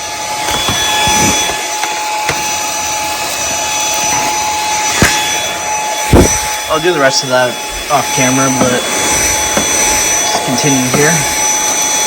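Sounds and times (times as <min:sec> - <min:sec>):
handheld vacuum whining: 0:00.0 - 0:12.0.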